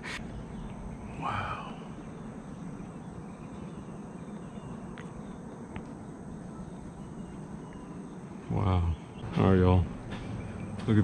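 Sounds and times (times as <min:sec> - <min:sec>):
faint high insect hum: 0:00.0 - 0:11.0.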